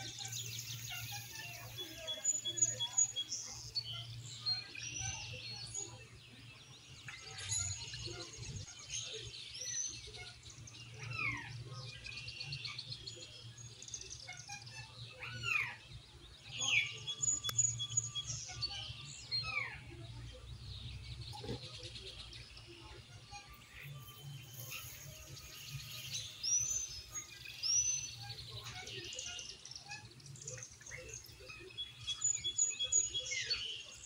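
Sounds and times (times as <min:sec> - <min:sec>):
birds chirping and calling: 0:00.0 - 0:34.0.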